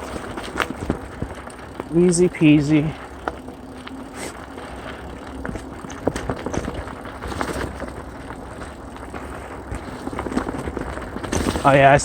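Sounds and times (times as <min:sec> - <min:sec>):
bike clicks and knocks: 0:00.0 - 0:12.0
bike tyres rolling on dirt: 0:00.0 - 0:12.0.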